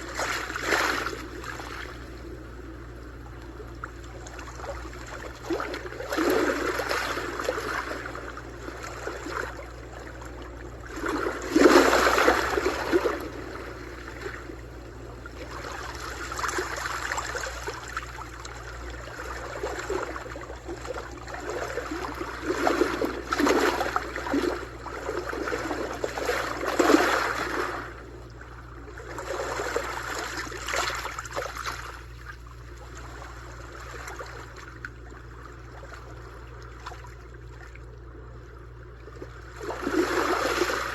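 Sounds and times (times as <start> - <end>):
sea waves washing in: 0.0 - 32.1, 39.3 - 40.9.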